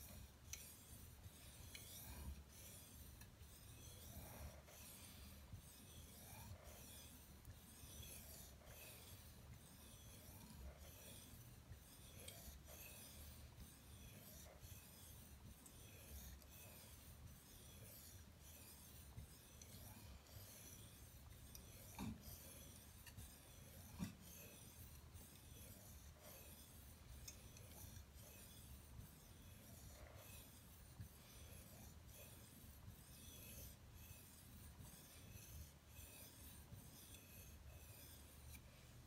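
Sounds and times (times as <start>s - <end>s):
knife scraping on whetstone: 0.0s - 39.0s.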